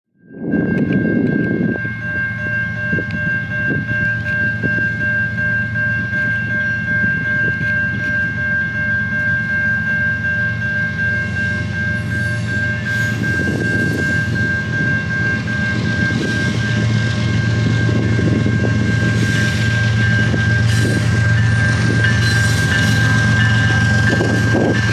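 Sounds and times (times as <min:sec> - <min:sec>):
diesel locomotive engine rumble: 0:00.2 - 0:24.9
crossing warning bell ringing: 0:00.3 - 0:24.9.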